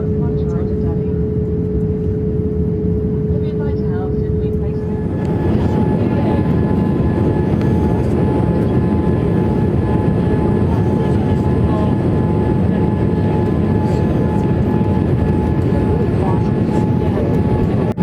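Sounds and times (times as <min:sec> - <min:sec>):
airplane cabin engine rush: 0:00.0 - 0:18.0.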